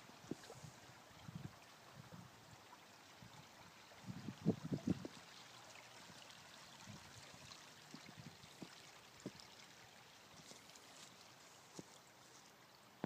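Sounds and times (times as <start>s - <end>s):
stream trickling over stones: 0.0s - 13.0s.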